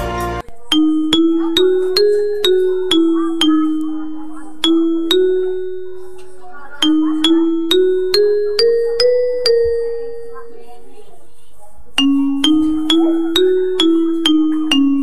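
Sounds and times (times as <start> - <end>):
station chime melody: 0.7 - 10.9, 12.0 - 15.0.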